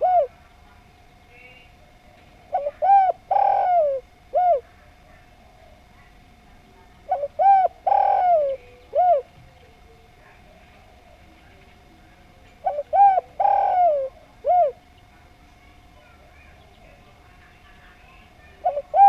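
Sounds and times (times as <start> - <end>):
dove cooing: 0.0 - 15.4, 16.0 - 19.0.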